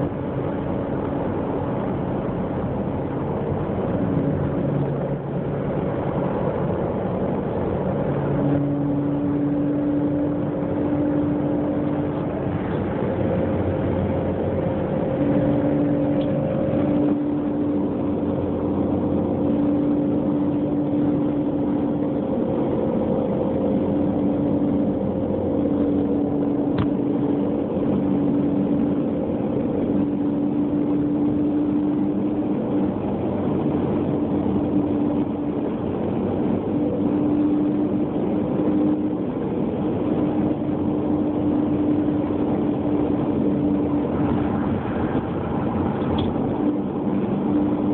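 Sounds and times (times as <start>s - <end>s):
car engine rumbling: 0.0s - 47.9s
pitched drone: 0.0s - 47.9s.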